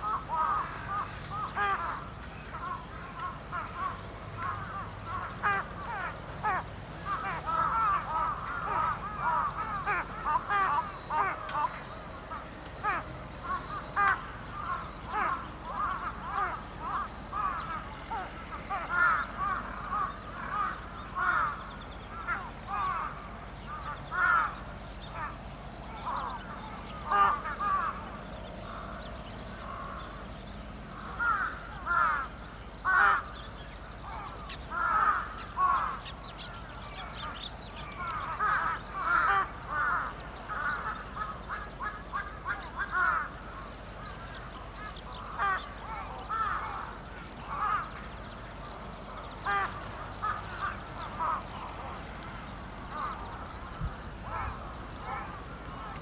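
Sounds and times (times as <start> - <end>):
crows cawing: 0.0 - 30.2, 30.9 - 48.1, 49.0 - 56.0.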